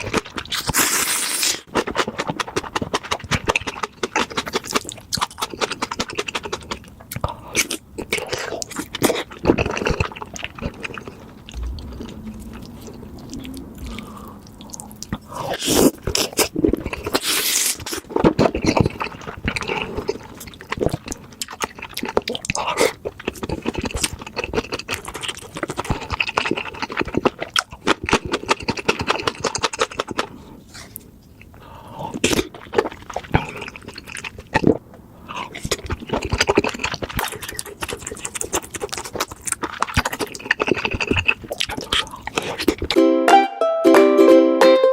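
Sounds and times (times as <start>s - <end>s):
chewing and slurping noodles: 0.0s - 43.0s.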